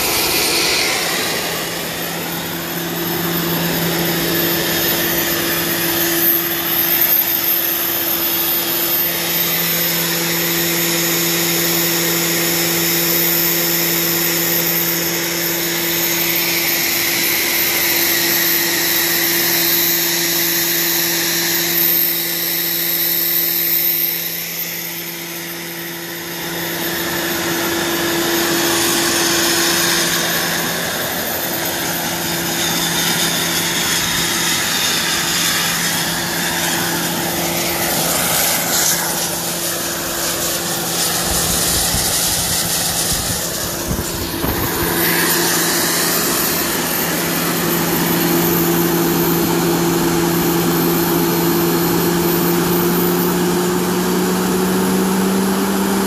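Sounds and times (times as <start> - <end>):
turbine engine whine and exhaust rush: 0.0 - 56.0.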